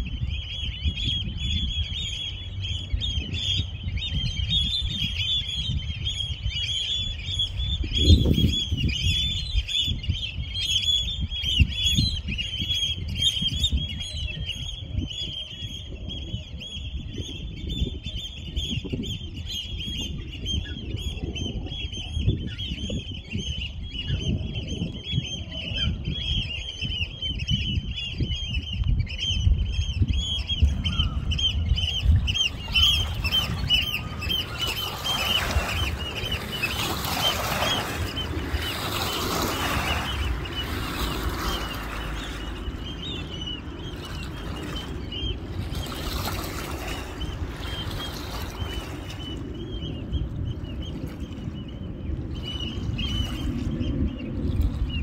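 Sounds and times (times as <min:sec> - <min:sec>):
small birds chirping: 0:00.0 - 0:54.4
low gusty rumble: 0:00.0 - 0:55.0.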